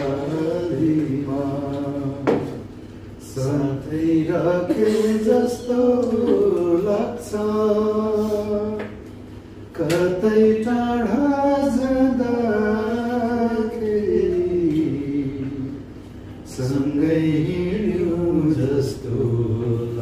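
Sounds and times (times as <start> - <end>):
man singing unaccompanied: 0.0 - 2.5, 3.2 - 8.9, 9.7 - 15.8, 16.5 - 20.0.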